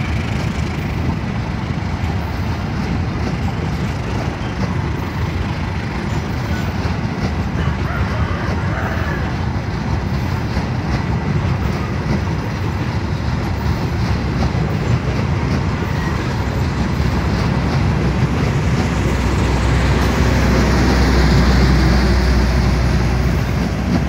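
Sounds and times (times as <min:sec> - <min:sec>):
train coaches rolling on rails: 0:00.0 - 0:24.0.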